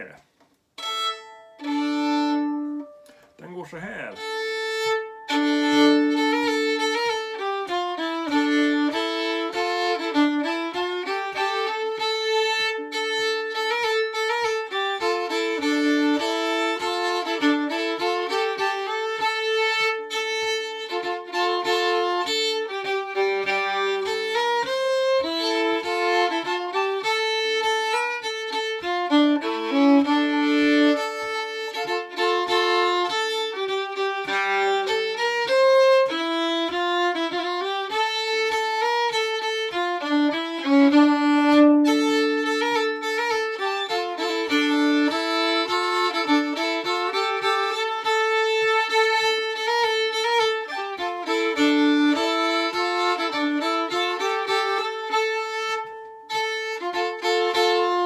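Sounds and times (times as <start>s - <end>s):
solo violin folk dance: 0.0s - 58.0s.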